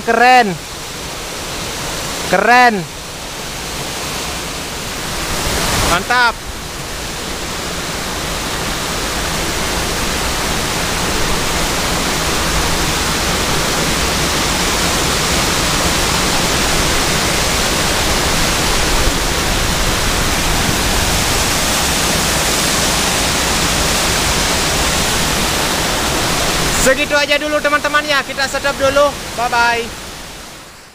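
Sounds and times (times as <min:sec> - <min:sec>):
waterfall rushing over boulders: 0:00.0 - 0:30.9.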